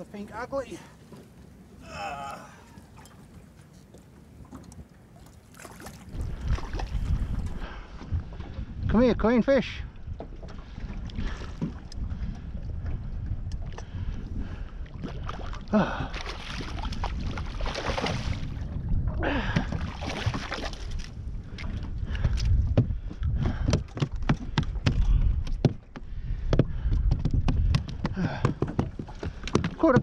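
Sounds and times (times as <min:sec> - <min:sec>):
wind on microphone: 0:05.9 - 0:30.0.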